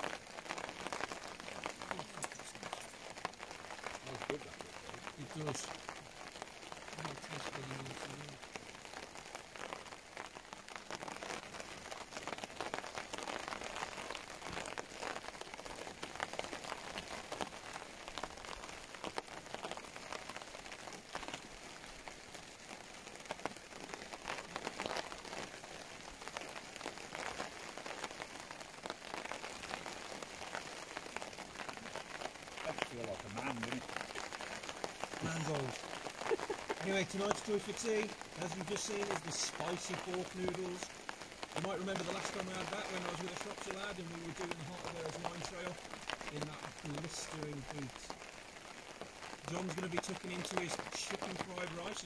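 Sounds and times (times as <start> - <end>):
raindrop impacts ticking: 0.0 - 52.0
steady rain falling: 0.0 - 52.0.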